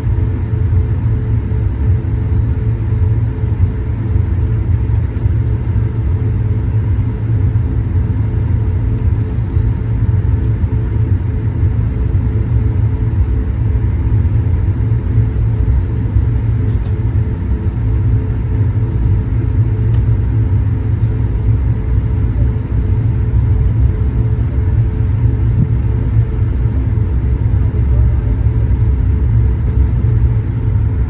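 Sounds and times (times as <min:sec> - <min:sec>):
airliner cabin drone: 0:00.0 - 0:31.0
steady hum tones: 0:00.0 - 0:31.0.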